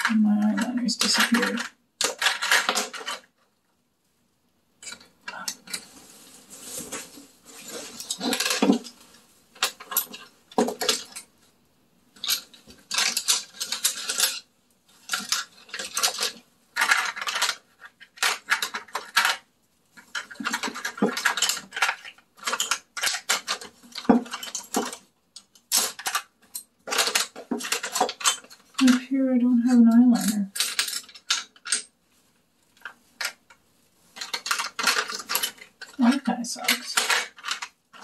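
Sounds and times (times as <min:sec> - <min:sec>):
cosmetic containers clattering: 0:00.0 - 0:03.4, 0:04.8 - 0:11.4, 0:12.1 - 0:32.0, 0:32.7 - 0:38.0.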